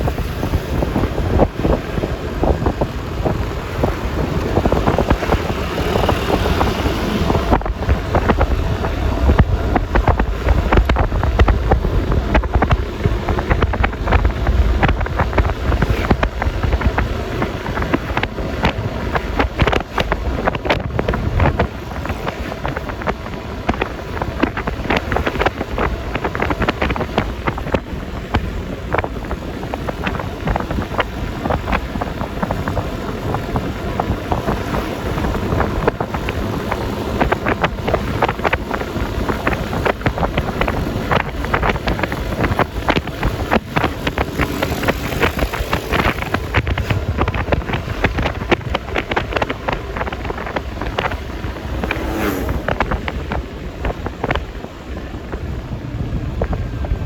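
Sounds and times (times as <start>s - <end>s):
road rush: 0.0s - 57.0s
scooter engine running: 0.0s - 57.0s
wind buffeting microphone: 0.0s - 57.0s.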